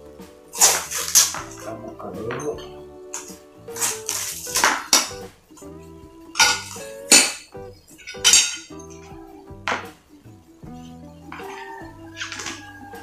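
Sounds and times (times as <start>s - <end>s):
background music with held tones: 0.0s - 13.0s
metal tubes clinking: 0.5s - 10.0s, 10.6s - 13.0s.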